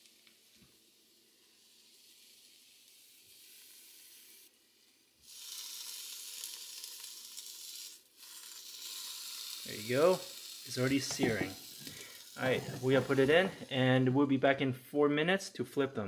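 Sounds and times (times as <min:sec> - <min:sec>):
steak sizzling in air fryer: 0:00.0 - 0:13.8.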